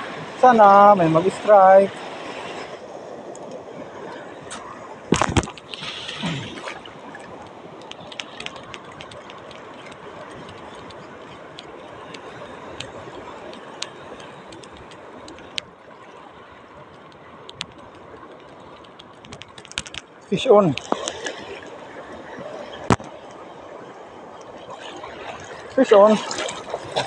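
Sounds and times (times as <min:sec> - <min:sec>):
water: 0:00.0 - 0:27.0
wind: 0:00.0 - 0:27.0.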